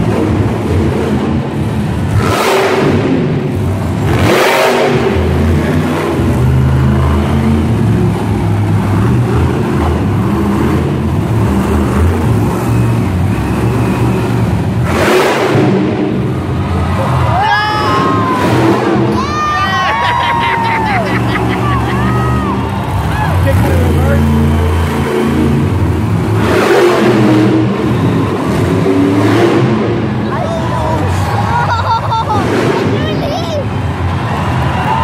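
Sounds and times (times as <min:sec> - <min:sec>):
truck engine revving loudly: 0:00.0 - 0:35.0.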